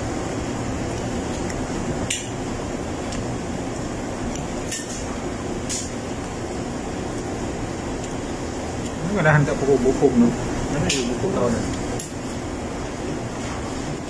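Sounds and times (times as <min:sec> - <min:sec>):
air conditioning hum: 0:00.0 - 0:14.0.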